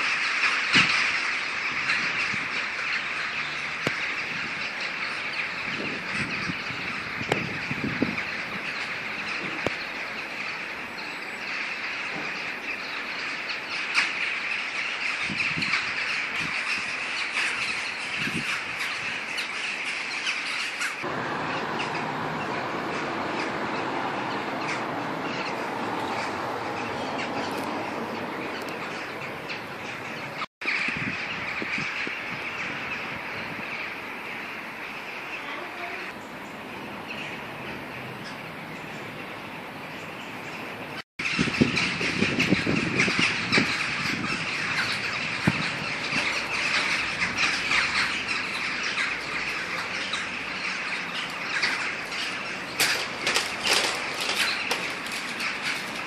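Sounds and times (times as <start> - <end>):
flock of birds calling: 0.0 - 56.0.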